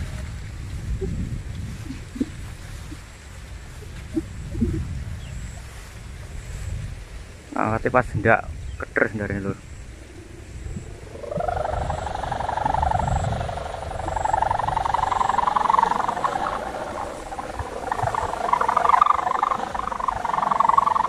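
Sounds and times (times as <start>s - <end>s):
kite hummer droning: 0.0s - 21.0s.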